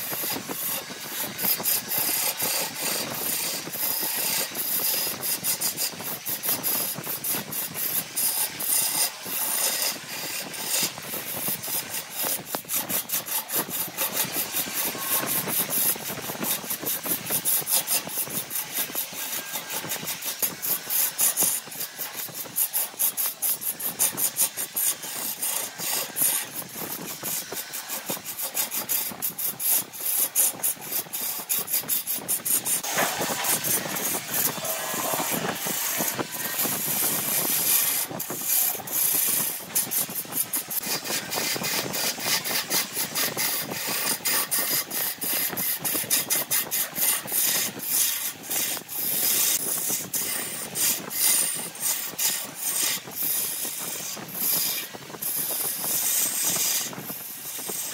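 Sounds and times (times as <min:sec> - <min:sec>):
lathe tool scraping wood: 0:00.0 - 0:57.9.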